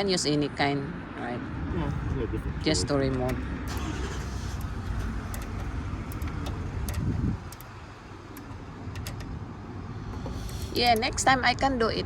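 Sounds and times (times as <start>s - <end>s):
low steady rumble: 0.1s - 12.0s.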